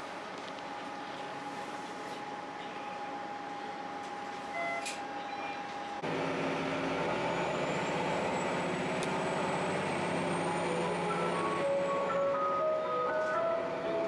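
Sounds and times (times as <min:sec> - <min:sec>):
diesel railcar engine rumble: 0:00.0 - 0:14.0.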